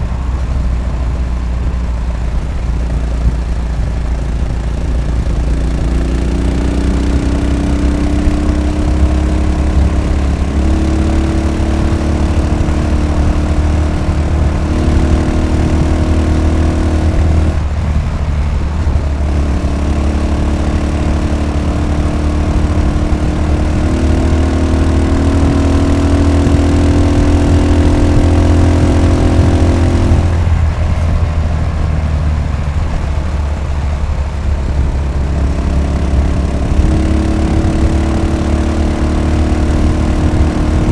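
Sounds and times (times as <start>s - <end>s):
motorcycle engine thumping: 0.0s - 40.9s.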